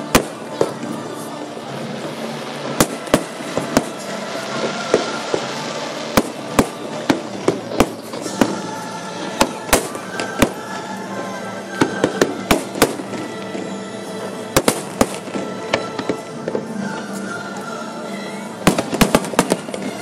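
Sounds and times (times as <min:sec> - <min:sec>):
fireworks bursting with sharp bangs: 0:00.0 - 0:17.6, 0:18.4 - 0:20.0.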